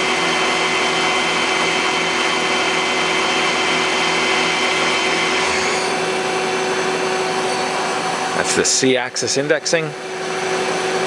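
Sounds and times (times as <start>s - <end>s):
lathe spindle whine and hiss: 0.1s - 11.0s.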